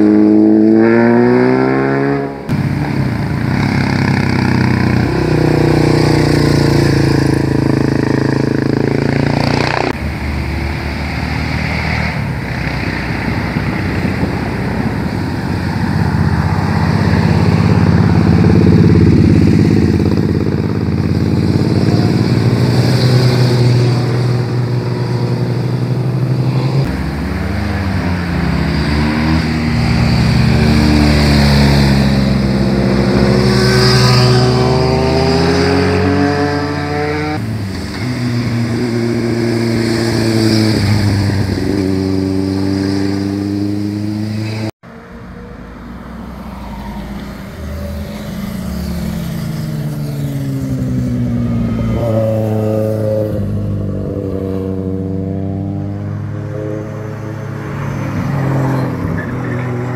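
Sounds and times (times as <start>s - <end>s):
motorcycle engines passing: 0.0s - 59.9s.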